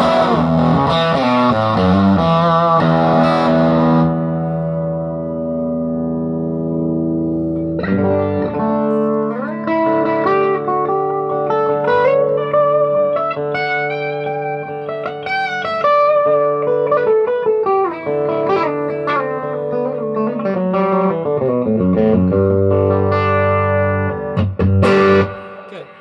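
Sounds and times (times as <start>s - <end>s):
electric guitar single-note lines: 0.0s - 26.0s.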